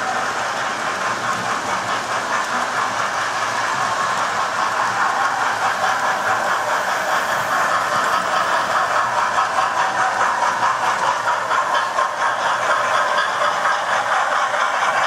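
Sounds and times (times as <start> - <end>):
train wheels rattling on rails: 0.0 - 15.0.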